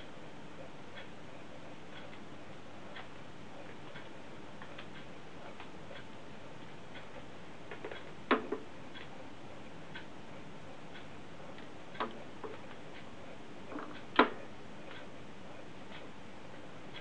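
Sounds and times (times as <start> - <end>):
vinyl surface hiss and clicks: 0.6 - 17.0.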